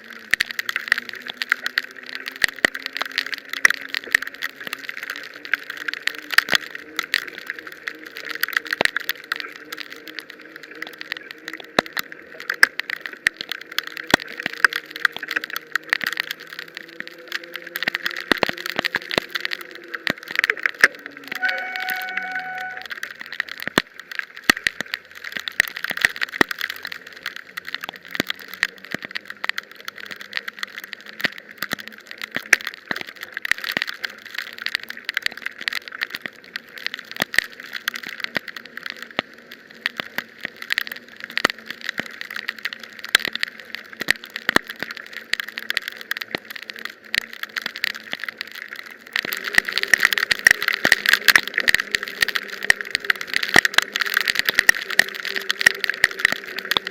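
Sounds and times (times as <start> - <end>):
raindrops ticking: 0.0 - 56.9
wet hiss of bicycle in rain: 0.0 - 56.9.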